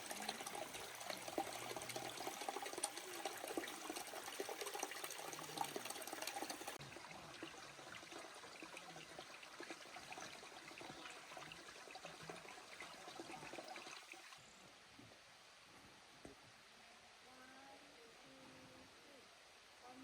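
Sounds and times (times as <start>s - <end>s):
faint running water: 0.0s - 20.0s.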